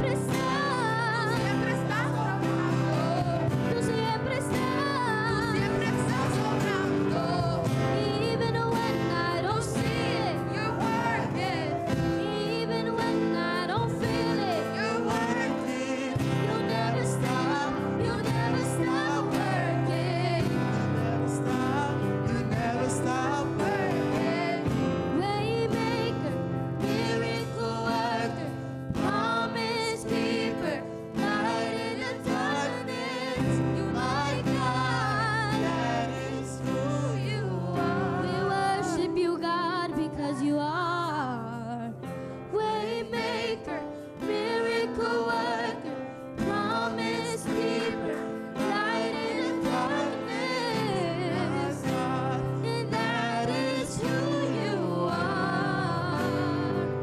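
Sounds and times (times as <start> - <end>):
voices singing over a band: 0.0 - 57.0.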